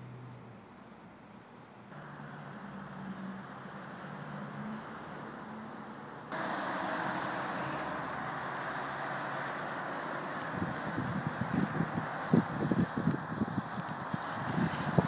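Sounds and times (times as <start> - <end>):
cars driving on snowy road: 0.0 - 15.0.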